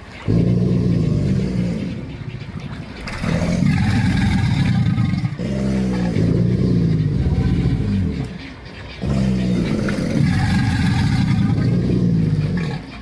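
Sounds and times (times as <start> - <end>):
alligator low rumbling calls: 0.0 - 13.0.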